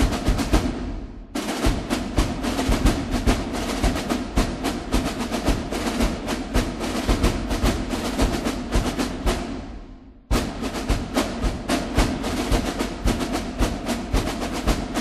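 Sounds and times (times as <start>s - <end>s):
drum and percussion music: 0.0s - 15.0s.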